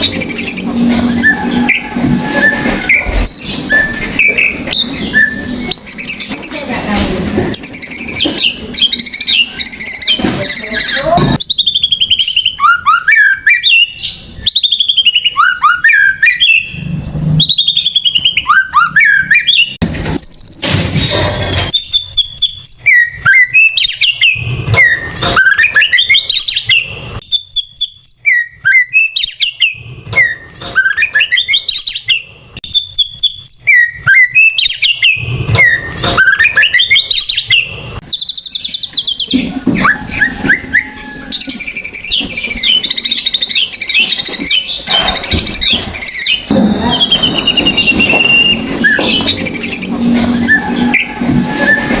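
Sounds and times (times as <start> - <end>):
bird singing whistles and trills: 0.0 - 6.6, 7.5 - 20.7, 21.7 - 52.0.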